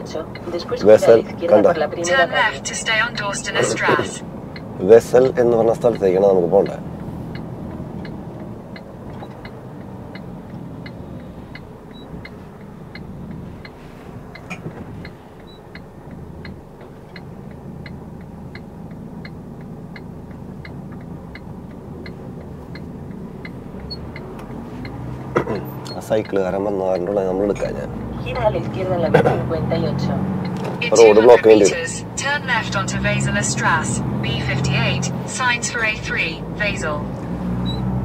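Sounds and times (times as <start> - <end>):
truck engine drone: 0.0 - 38.0
turn signal ticking: 0.0 - 38.0.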